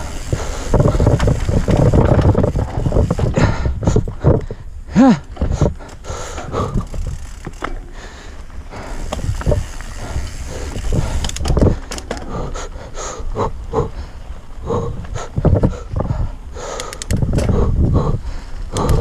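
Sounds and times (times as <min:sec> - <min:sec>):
bike knocking and rattling: 0:00.0 - 0:12.7, 0:14.8 - 0:17.8
bike tyres rumbling over dirt: 0:00.0 - 0:16.5.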